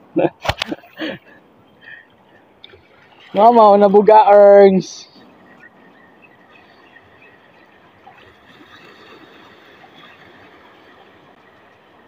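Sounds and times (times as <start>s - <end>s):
small waves washing: 2.1s - 12.0s.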